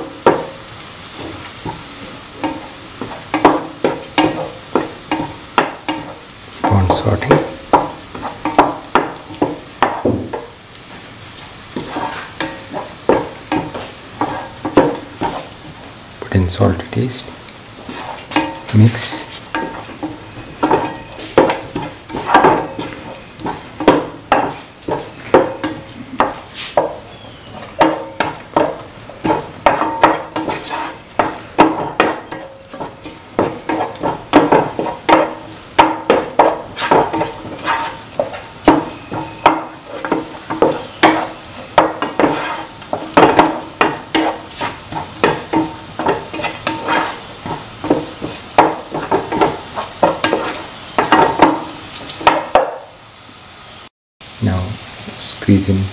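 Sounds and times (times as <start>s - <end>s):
spatula scraping a pan: 0.0s - 11.0s, 11.6s - 15.9s, 17.6s - 52.8s
oil sizzling: 0.0s - 55.9s.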